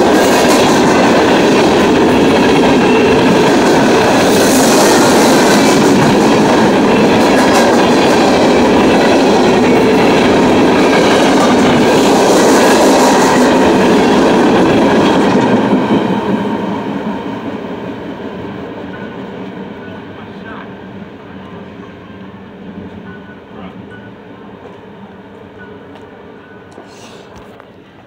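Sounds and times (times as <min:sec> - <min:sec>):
freight train rumble: 0:00.0 - 0:28.0.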